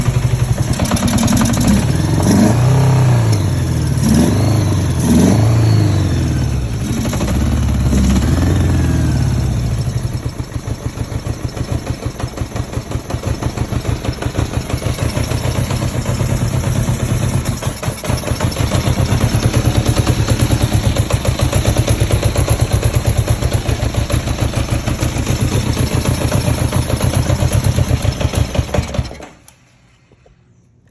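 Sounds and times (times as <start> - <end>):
motorcycle engine revving and idling: 0.0 - 29.3.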